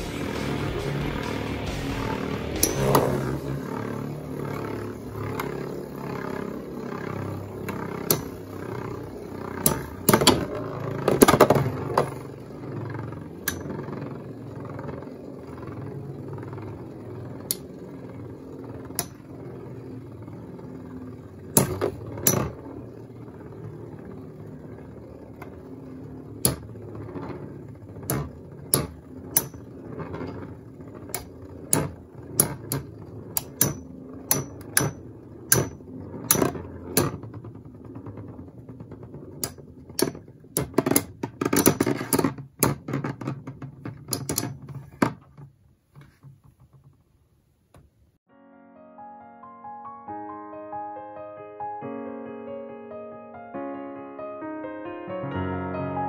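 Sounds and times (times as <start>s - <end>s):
spinning tops whirring: 0.0s - 47.6s.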